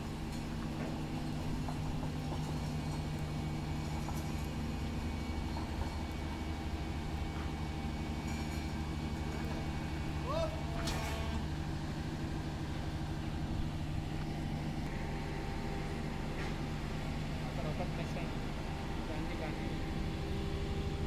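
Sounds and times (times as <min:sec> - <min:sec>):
low mechanical drone: 0:00.0 - 0:21.0.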